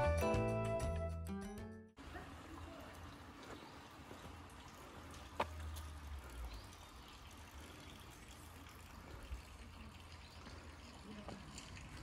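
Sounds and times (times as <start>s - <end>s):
trickle of running water: 2.0s - 12.0s.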